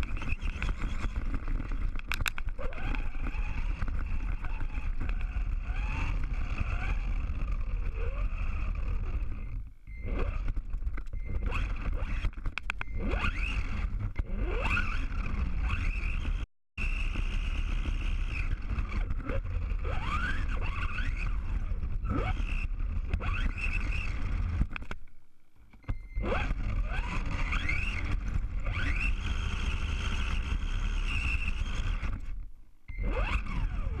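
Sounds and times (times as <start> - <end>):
radio-controlled car motor: 0.0 - 24.9, 25.8 - 34.0
tyre and road rumble: 0.0 - 32.4.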